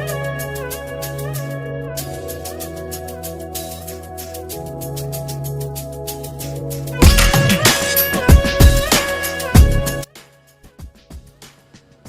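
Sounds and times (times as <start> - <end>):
music with drum beat: 0.0 - 12.0.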